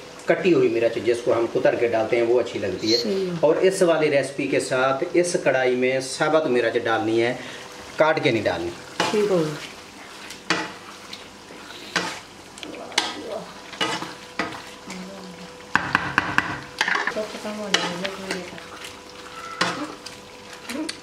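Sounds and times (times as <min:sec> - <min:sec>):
meat sizzling in ghee: 0:00.0 - 0:21.0.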